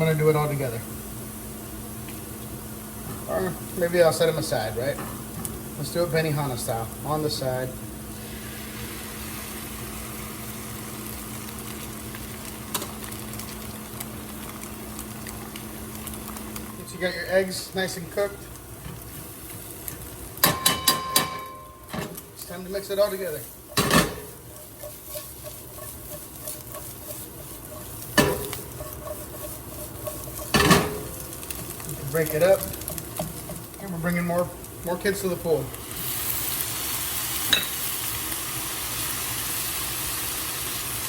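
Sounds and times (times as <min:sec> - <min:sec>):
eggs sizzling in a pan: 0:00.0 - 0:41.0.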